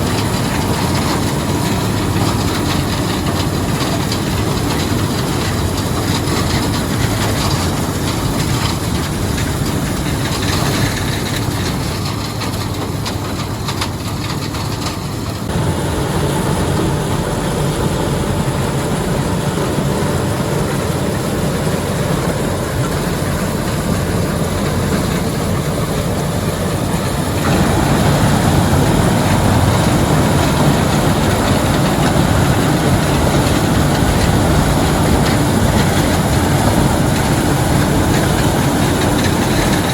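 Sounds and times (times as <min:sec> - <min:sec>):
heavy farm machinery running: 0:00.0 - 0:39.9.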